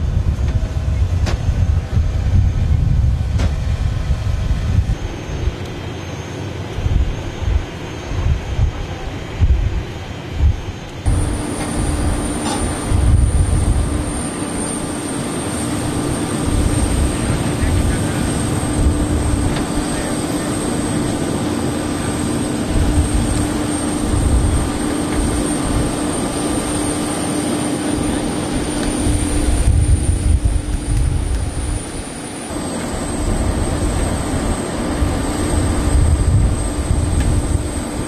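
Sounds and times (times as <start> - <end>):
constant rumble: 0.0 - 38.0
jet engine whine: 0.0 - 38.0
wind buffeting microphone: 0.0 - 38.0
low hum: 6.6 - 38.0.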